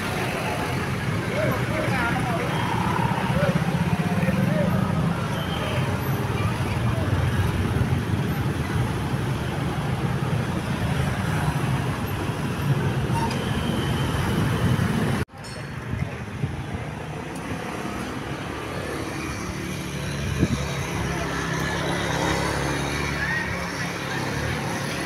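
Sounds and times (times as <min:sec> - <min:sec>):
road traffic engine rumble: 0:00.0 - 0:25.0.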